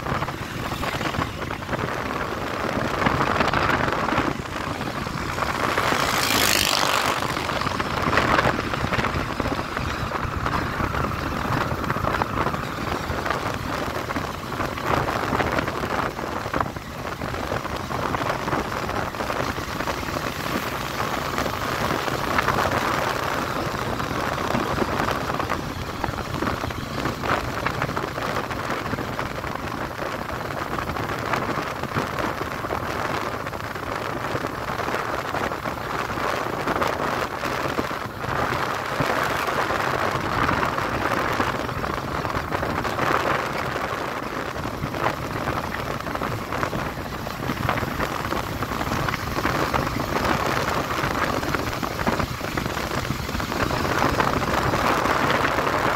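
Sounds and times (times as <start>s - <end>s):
road noise: 0.0s - 55.9s
wind rushing over microphone: 0.0s - 55.9s.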